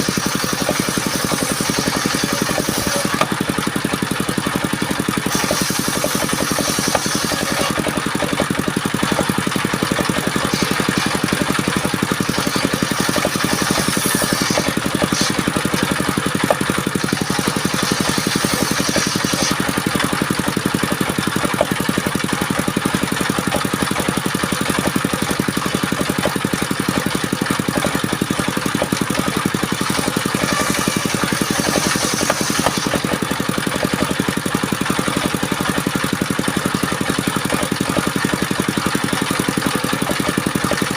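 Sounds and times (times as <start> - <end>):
engine-driven wood saw running: 0.0 - 40.9.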